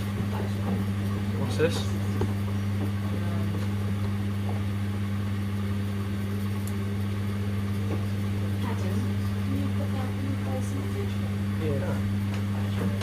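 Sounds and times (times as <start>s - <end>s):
washing machines humming: 0.0s - 13.0s.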